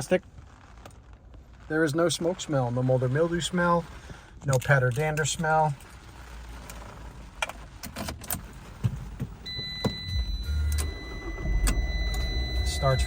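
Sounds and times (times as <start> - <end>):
car engine cranking and starting: 0.0 - 13.0.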